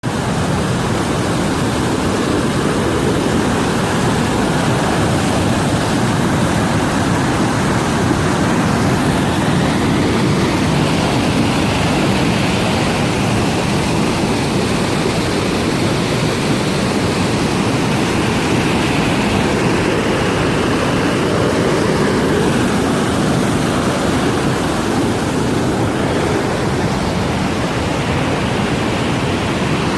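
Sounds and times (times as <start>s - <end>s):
floodwater rushing loudly: 0.0s - 29.9s.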